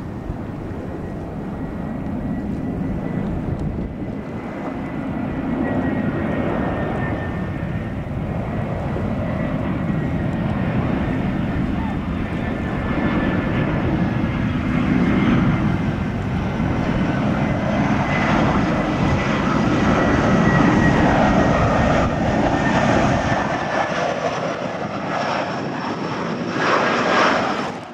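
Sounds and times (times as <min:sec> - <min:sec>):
jet airliner engines rumbling: 0:00.0 - 0:27.9.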